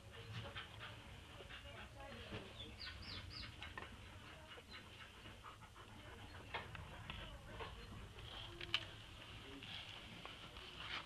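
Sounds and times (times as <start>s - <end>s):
dogs panting softly: 0.0s - 11.0s.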